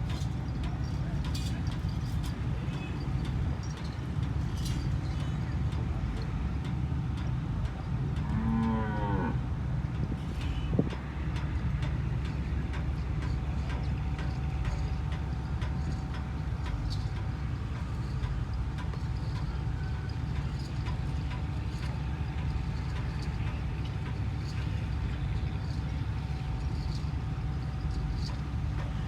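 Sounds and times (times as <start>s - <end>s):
faint steady hum: 0.0s - 29.0s
vehicle running rumble: 0.0s - 29.0s.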